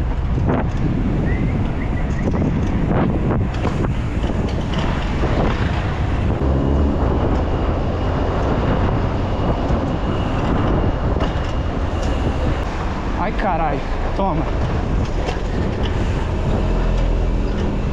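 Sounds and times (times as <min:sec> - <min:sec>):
bicycle tyre and road noise: 0:00.0 - 0:17.9
wind buffeting microphone: 0:00.0 - 0:17.9.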